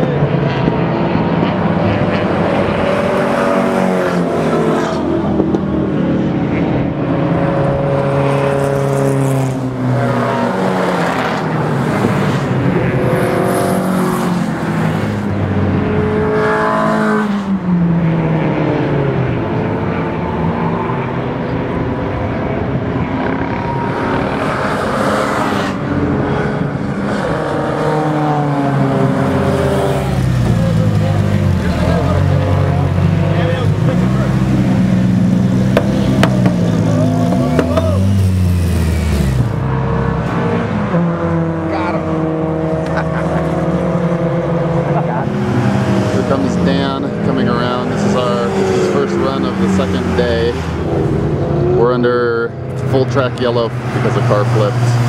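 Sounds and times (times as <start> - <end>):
cars passing by: 0.0 - 55.0
race car engines accelerating: 0.0 - 55.0.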